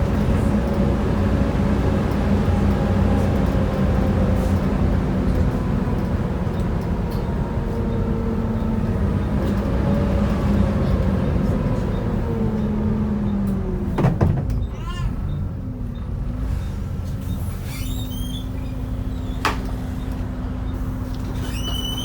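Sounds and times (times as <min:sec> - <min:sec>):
bus engine roar: 0:00.0 - 0:22.0.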